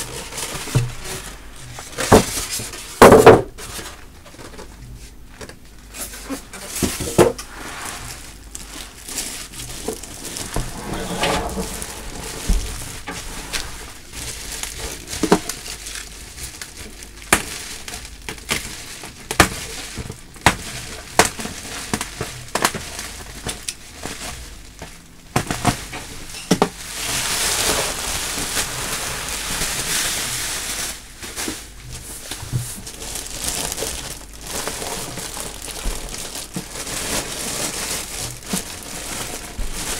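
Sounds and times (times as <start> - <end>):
plastic bag crinkling: 0.0 - 4.7, 6.0 - 39.9.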